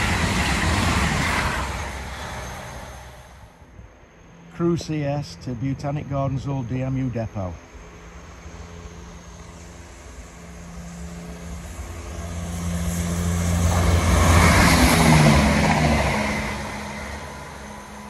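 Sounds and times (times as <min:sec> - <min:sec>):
diesel train engine passing: 0:00.0 - 0:18.0
wheels rushing on rail: 0:00.0 - 0:18.0.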